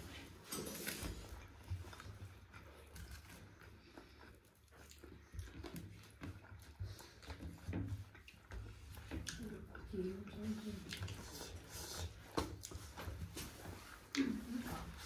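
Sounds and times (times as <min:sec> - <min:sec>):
chewing and biting: 0:00.0 - 0:14.3.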